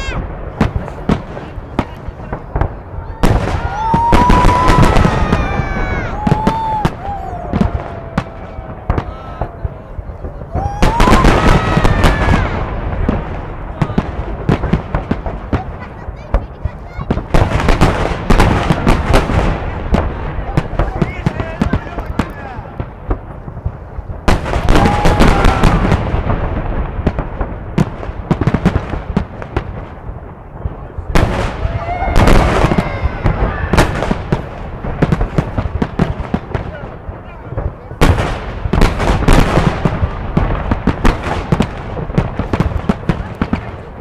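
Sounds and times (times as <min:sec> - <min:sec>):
firework bangs: 0:00.0 - 0:44.0.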